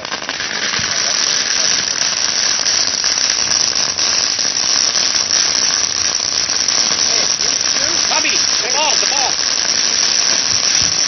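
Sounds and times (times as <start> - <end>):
faint crackle: 0.0 - 11.0
fountain firework hissing: 0.0 - 11.0.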